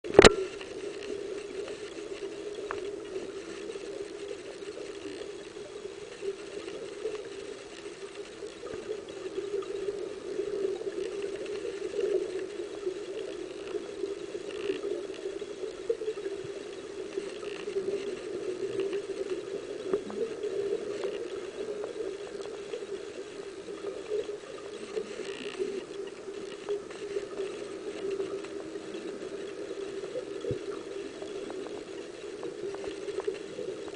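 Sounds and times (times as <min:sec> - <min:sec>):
muffled underwater hum: 0:00.0 - 0:33.9.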